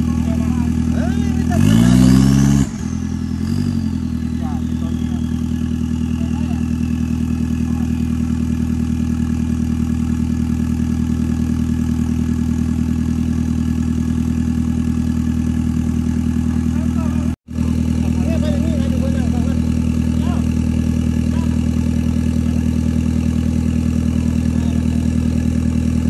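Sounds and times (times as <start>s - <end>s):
off-road engine idling: 0.0s - 26.0s.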